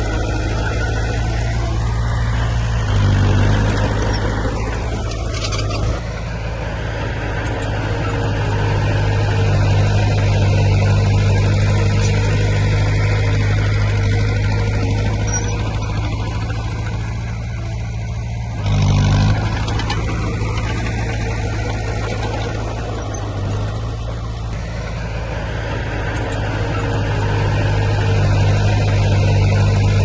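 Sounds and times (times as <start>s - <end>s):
heavy diesel engine under load: 0.0s - 30.0s.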